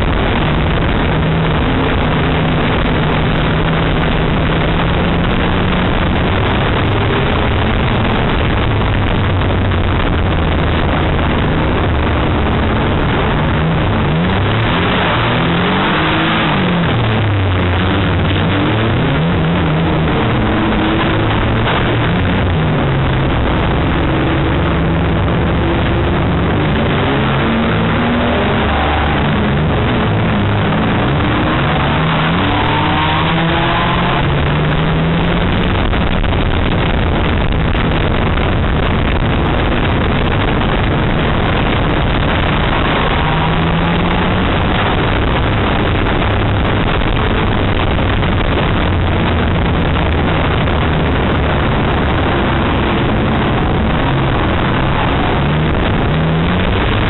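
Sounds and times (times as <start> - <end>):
loud rush of noise: 0.0 - 57.0
race car engine revving: 0.0 - 57.0.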